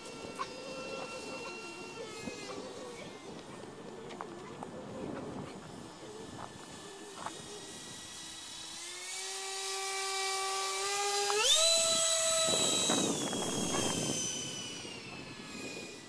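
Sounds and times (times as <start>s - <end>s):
electric ducted fans whining: 0.0s - 16.0s.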